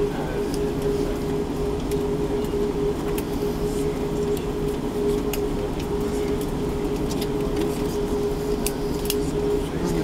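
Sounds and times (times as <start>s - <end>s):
aircraft cabin rumble and hum: 0.0s - 10.0s.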